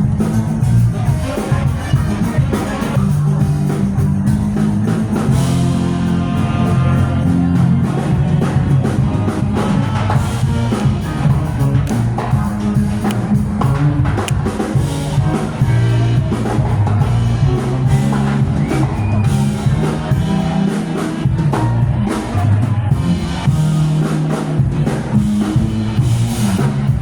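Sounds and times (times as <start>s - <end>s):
bass line: 0.0s - 27.0s
drum kit beat: 0.0s - 27.0s
live band playing: 0.0s - 27.0s.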